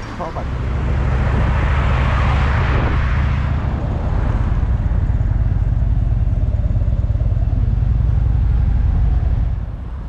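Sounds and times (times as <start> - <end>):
passing traffic rushing: 0.0 - 10.0.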